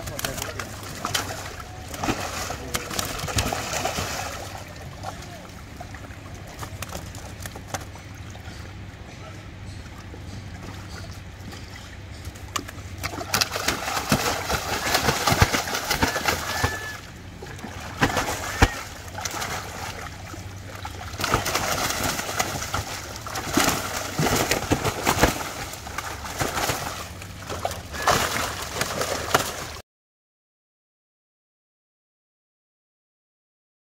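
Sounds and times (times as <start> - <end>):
fish thrashing and splashing water: 0.0 - 9.0, 10.0 - 29.8.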